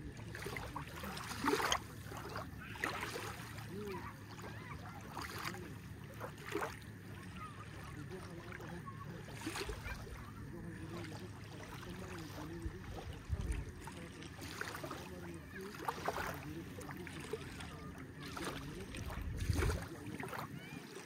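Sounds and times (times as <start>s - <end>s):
distant voices: 0.0s - 21.0s
water lapping at shore: 0.0s - 21.0s.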